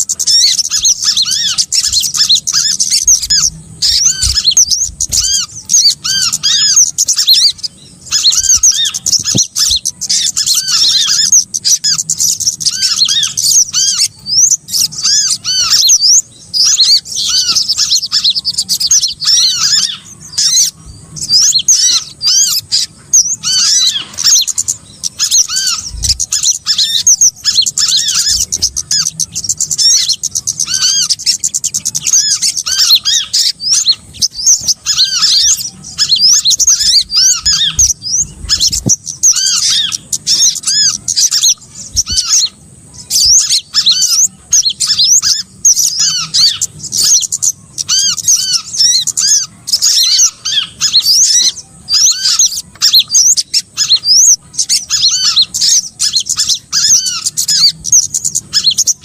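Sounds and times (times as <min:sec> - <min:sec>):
songbirds chirping and twittering: 0:00.0 - 0:59.0.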